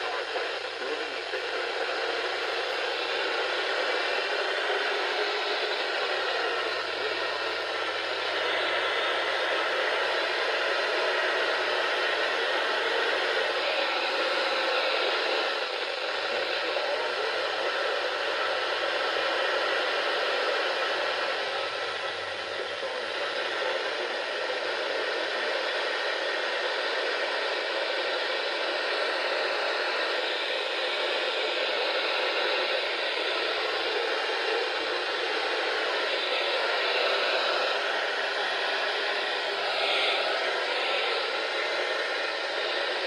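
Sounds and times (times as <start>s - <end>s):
radio static hiss: 0.0s - 43.0s.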